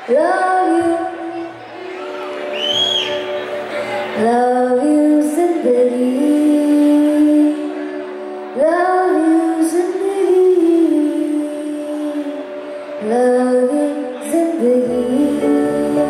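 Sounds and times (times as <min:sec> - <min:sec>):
woman singing: 0:00.0 - 0:01.7, 0:04.1 - 0:16.0
instrumental backing: 0:00.0 - 0:16.0.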